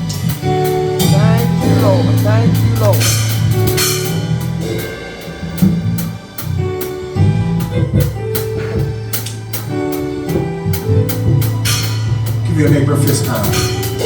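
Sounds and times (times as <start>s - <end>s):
church band playing gospel: 0.0s - 14.0s
drum kit beat: 0.0s - 14.0s.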